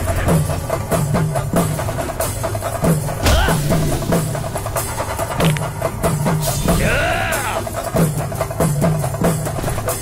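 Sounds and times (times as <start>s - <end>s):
deep heavy drum strokes: 0.0s - 9.6s.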